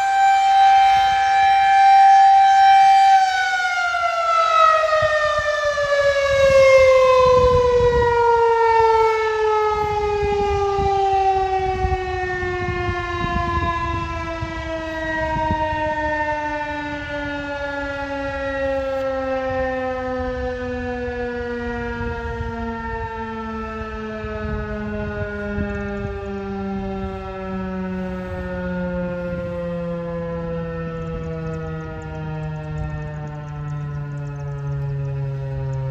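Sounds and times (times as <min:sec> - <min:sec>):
warning siren winding down: 0:00.0 - 0:35.9.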